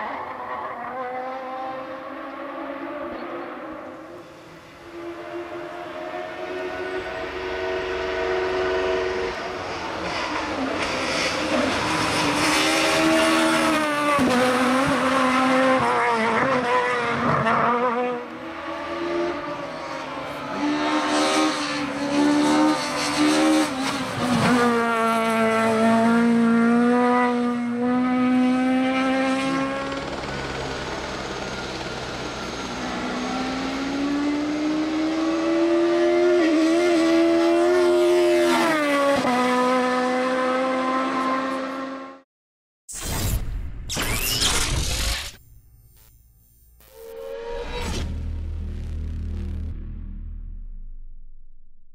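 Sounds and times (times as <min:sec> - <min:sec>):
rally car engine at full throttle: 0:00.0 - 0:42.2.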